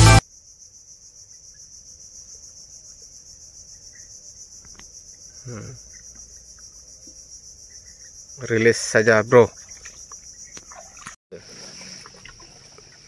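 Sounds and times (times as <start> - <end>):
insect chorus trilling: 0.2 - 13.0.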